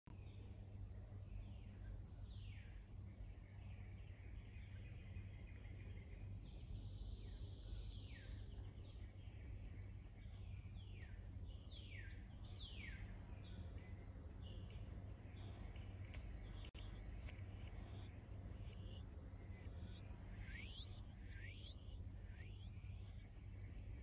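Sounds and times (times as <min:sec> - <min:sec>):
faint low rumble: 0:00.1 - 0:24.0
birds whistling and chattering: 0:00.2 - 0:24.0.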